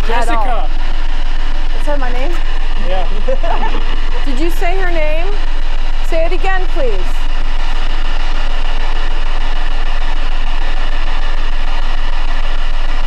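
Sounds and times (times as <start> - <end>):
low hum: 0.0 - 13.0
radio static hiss: 0.0 - 13.0.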